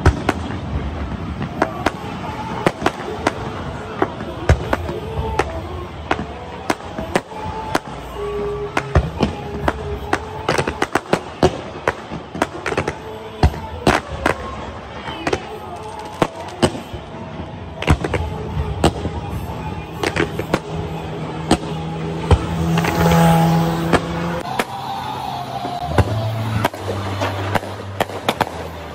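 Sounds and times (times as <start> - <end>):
fireworks bangs and cracks: 0.0 - 28.9.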